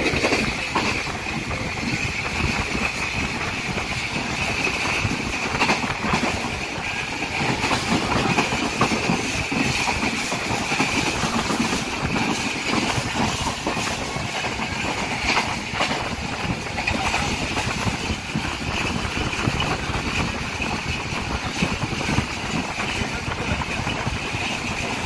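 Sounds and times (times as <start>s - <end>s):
train wheels rumbling on rails: 0.0s - 25.0s
wind rush: 0.0s - 25.0s.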